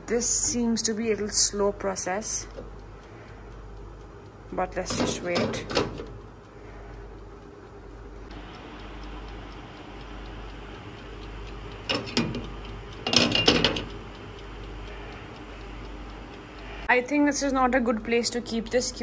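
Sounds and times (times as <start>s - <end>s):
wind-up timer ticking: 0.0s - 19.0s.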